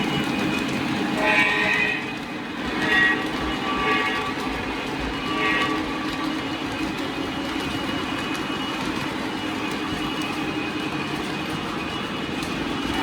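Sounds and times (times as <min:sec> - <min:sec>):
model train rolling rumble: 0:00.0 - 0:13.0.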